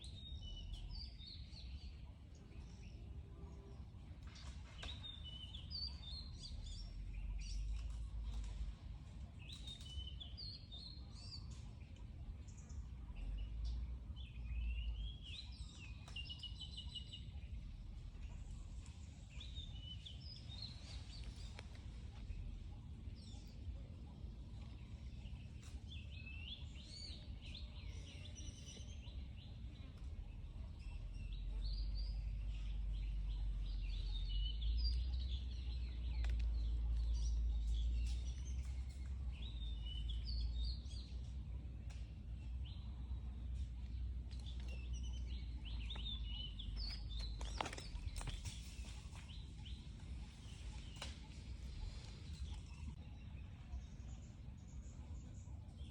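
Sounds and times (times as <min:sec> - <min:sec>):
low steady rumble: 0:00.0 - 0:55.9
small birds chirping: 0:00.0 - 0:55.9.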